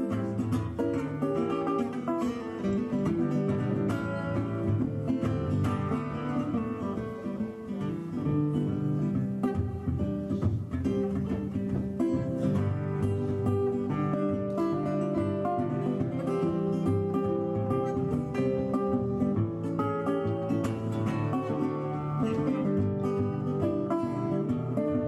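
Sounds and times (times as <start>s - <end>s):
acoustic blues guitar: 0.0s - 25.0s.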